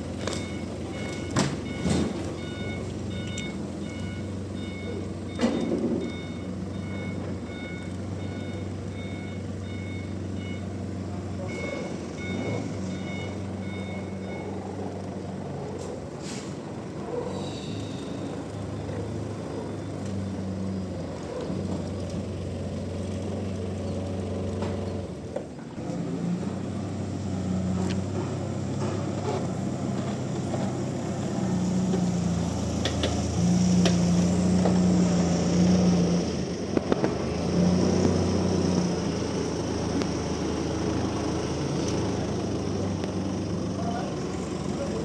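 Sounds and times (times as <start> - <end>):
heavy machine engine humming: 0.0 - 45.0.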